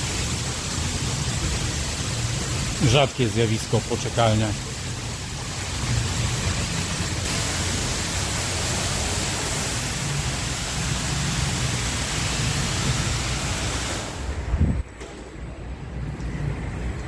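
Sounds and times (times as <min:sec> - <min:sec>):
water jets hissing: 0:00.0 - 0:14.5
car wash machine rumble: 0:00.0 - 0:17.0.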